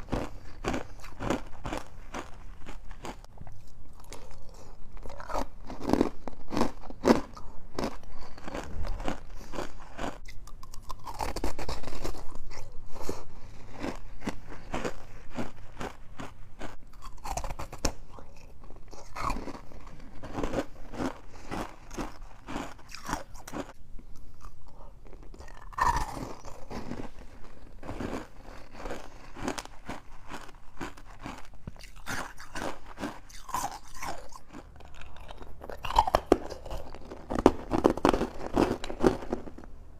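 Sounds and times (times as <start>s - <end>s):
crunching frost while chewing: 0.0s - 39.8s.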